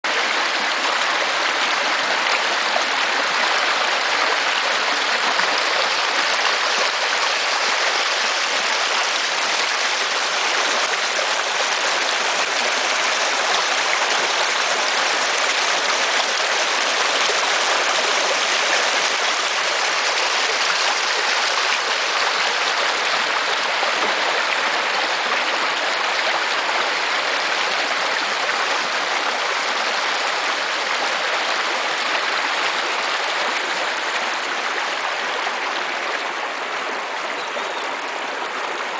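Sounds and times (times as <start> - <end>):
river water rushing: 0.1 - 38.9.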